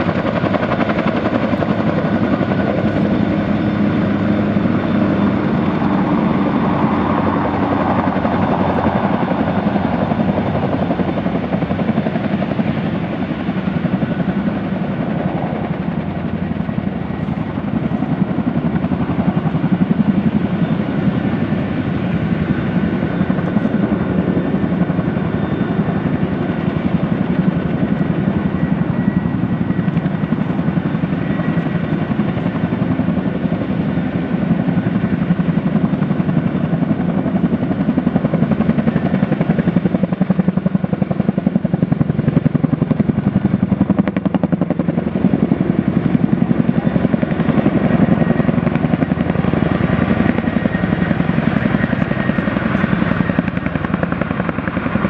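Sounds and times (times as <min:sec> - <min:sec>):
helicopter rotor blade beat: 0:00.0 - 0:55.0
turbine engines whining: 0:00.0 - 0:55.0.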